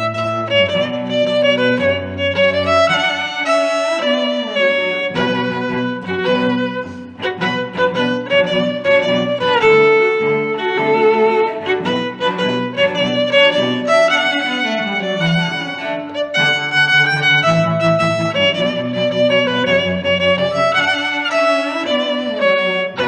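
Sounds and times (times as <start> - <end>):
lower string accompaniment: 0.0 - 23.0
violin playing sustained notes: 0.0 - 23.0.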